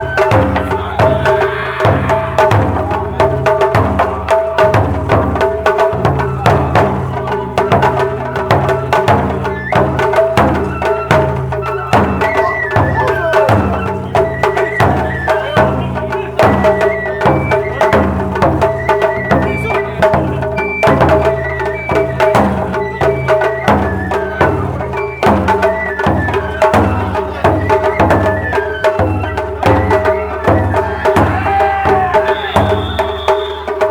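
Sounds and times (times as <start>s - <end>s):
bamboo flute melody: 0.0s - 33.9s
drums: 0.0s - 33.9s
sharp rhythmic strikes: 0.0s - 33.9s.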